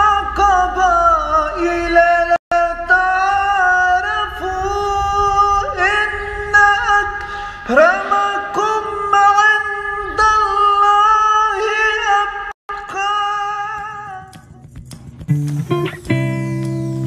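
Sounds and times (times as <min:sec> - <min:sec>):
man reciting in melodic voice: 0:00.0 - 0:14.3.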